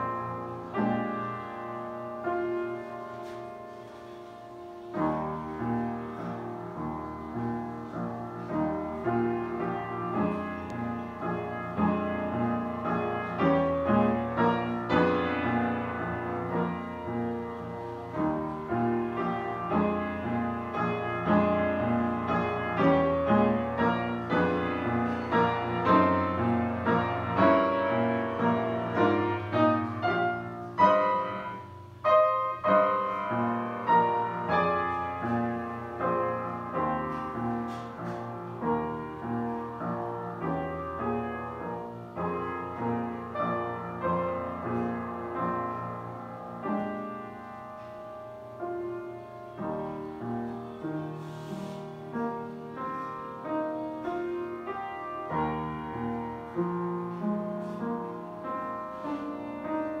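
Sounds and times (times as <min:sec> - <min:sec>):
solo piano piece: 0:00.0 - 1:00.0.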